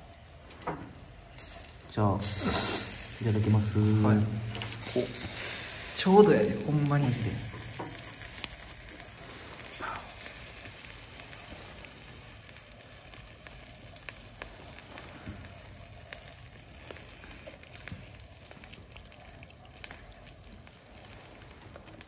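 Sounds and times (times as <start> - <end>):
crackling fire: 0.0 - 22.0
food sizzling on grill: 0.0 - 22.0.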